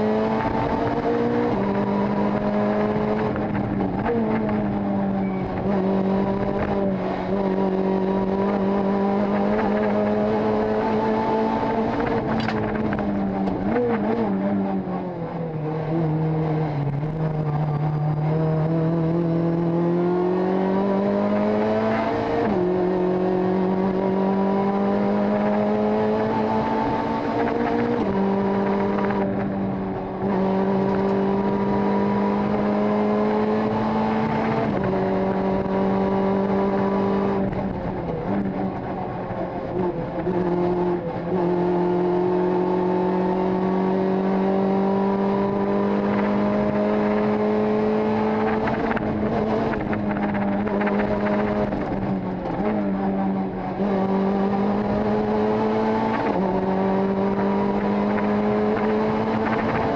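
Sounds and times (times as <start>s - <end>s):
rally car engine at high revs: 0.0s - 59.9s.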